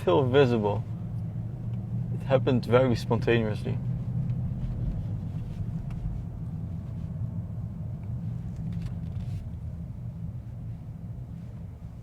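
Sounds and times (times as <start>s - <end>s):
car engine rumble in cabin: 0.0s - 12.0s.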